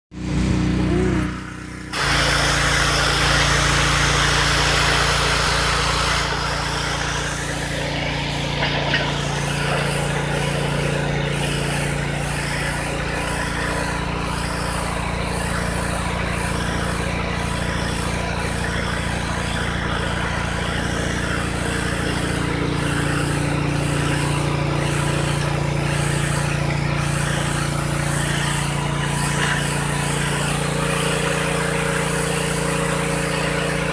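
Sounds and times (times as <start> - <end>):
pressure washer jet hissing: 0.2 - 33.9.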